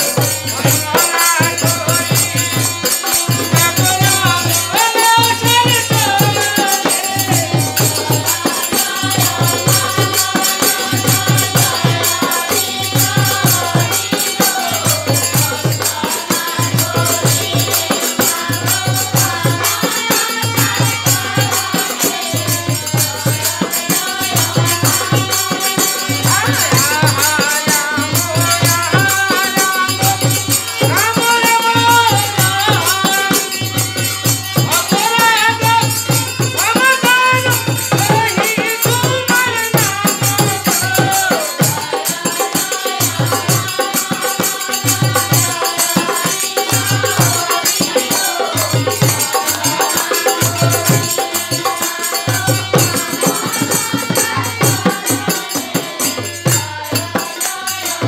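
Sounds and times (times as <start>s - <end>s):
harmonium: 0.0s - 58.0s
small percussion rhythm: 0.0s - 58.0s
women singing: 0.0s - 58.0s.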